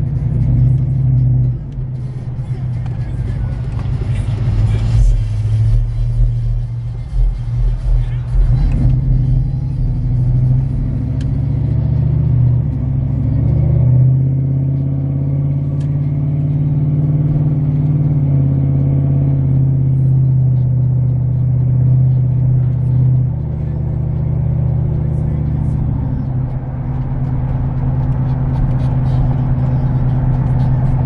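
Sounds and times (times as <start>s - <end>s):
truck engine droning: 0.0s - 31.0s.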